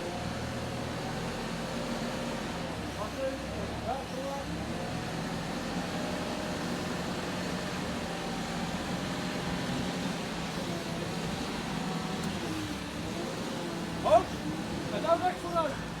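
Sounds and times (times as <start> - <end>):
heavy vehicle engine humming: 2.3 - 16.0.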